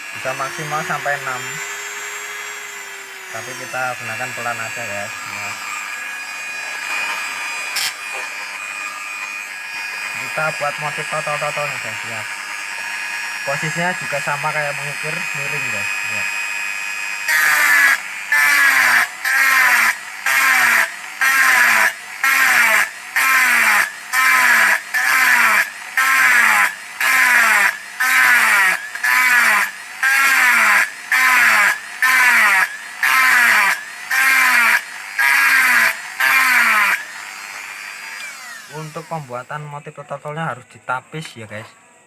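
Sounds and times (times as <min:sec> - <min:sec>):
rotary tool grinding metal: 0:00.0 - 0:39.6.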